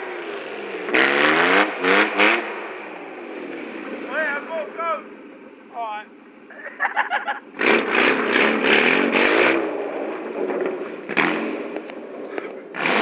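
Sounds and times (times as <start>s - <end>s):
car engine revving and driving off: 0.0s - 13.0s.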